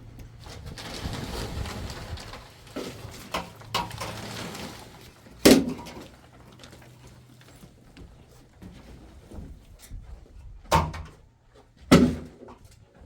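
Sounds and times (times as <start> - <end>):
knocks and clatters of objects: 0.2 - 13.0.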